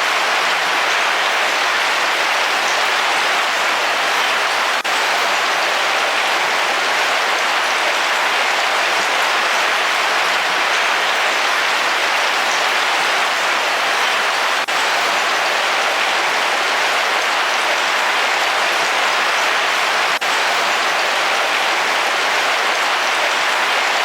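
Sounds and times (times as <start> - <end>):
heavy rain on car roof: 0.0 - 24.0.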